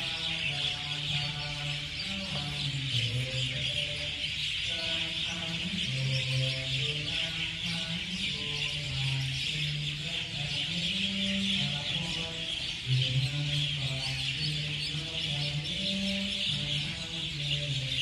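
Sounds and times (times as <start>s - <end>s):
flock of small birds chirping: 0.0s - 18.0s
low voices chanting: 0.0s - 18.0s.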